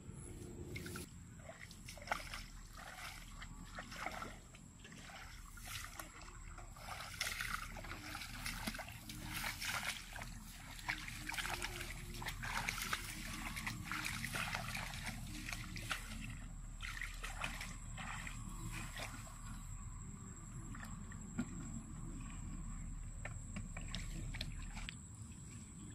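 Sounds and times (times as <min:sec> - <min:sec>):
footsteps splashing in muddy water: 0:00.5 - 0:25.9.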